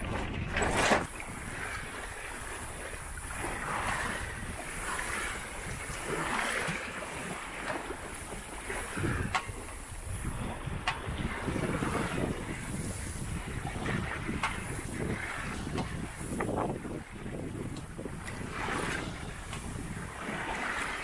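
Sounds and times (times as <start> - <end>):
water rushing along boat hull: 0.0 - 21.0
wind on microphone: 0.0 - 21.0.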